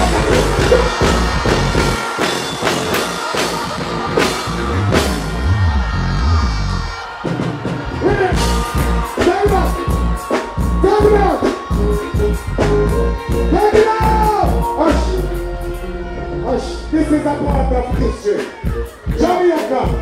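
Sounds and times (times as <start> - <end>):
live reggae music: 0.0 - 20.0.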